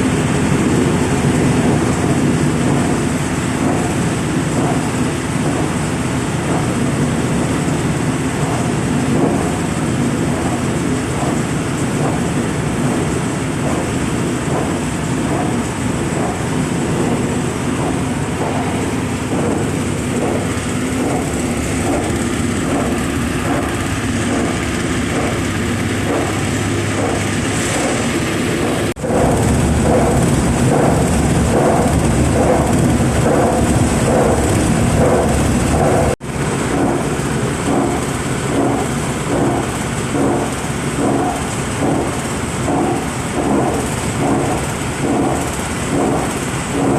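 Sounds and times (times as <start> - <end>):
crusher machine running: 0.0 - 46.9.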